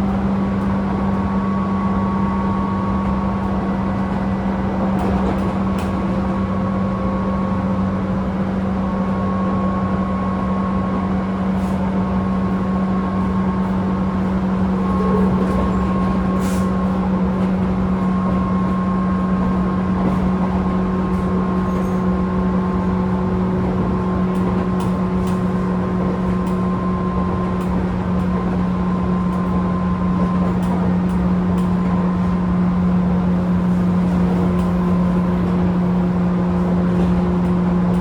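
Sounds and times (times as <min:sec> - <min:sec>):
electric train motor hum: 0:00.0 - 0:38.0.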